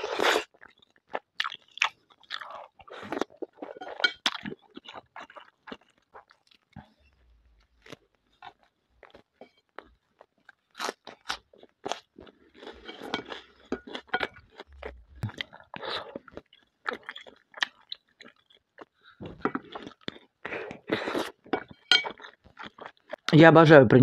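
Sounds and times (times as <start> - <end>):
chewing with mouth clicks: 0.0 - 23.3.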